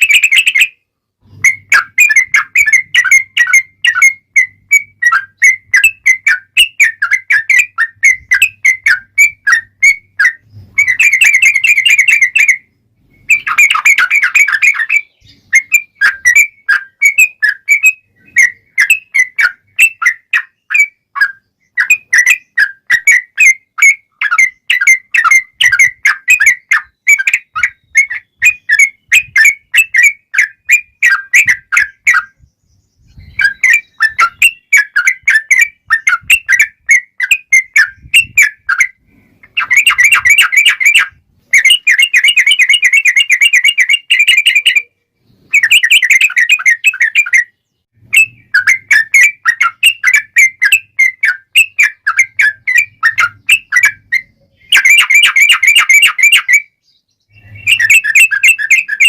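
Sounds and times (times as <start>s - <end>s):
bulbul singing chattering notes: 1.3s - 59.0s.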